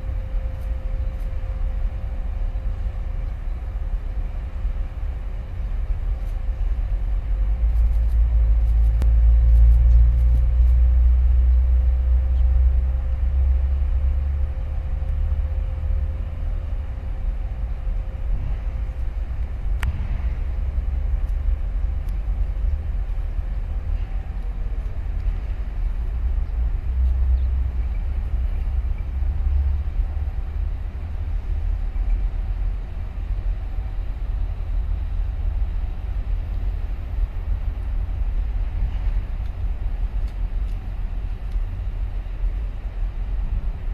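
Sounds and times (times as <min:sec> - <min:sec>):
faint steady hum: 0:00.0 - 0:43.9
ship low rumble: 0:00.0 - 0:43.9.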